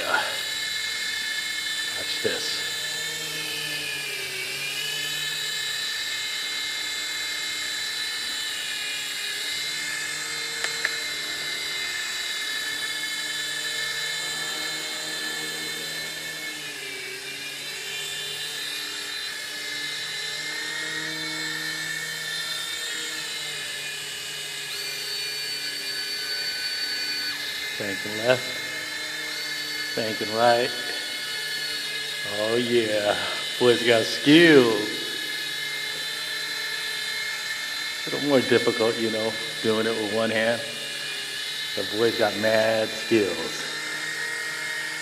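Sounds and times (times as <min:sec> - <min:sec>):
toy helicopter rotors whining: 0:00.0 - 0:45.0.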